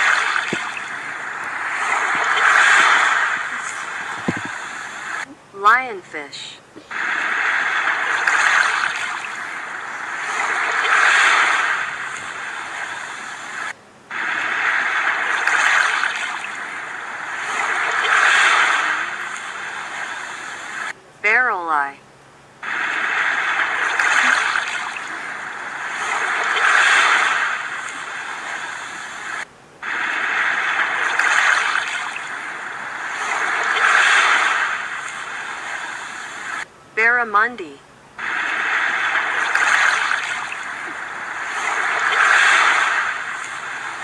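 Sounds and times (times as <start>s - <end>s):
sea waves washing: 0.0s - 21.0s, 22.6s - 36.7s, 38.1s - 44.0s.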